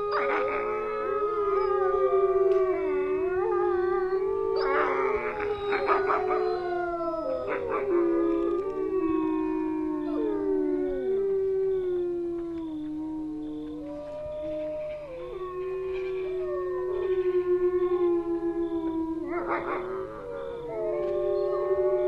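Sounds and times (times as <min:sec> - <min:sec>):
wolves howling in chorus: 0:00.0 - 0:22.0.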